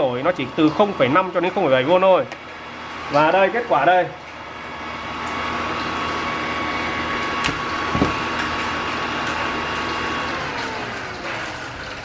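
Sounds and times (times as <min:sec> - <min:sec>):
cooling fan whirring: 0:00.0 - 0:12.0.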